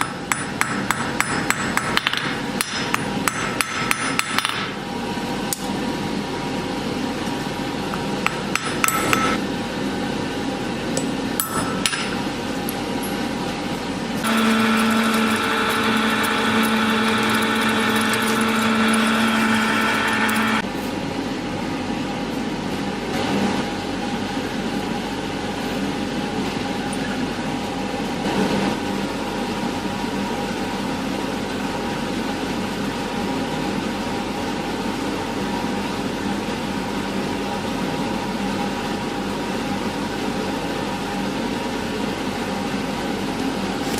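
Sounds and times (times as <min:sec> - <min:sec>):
mechanical hum with tones: 0:00.0 - 0:43.9.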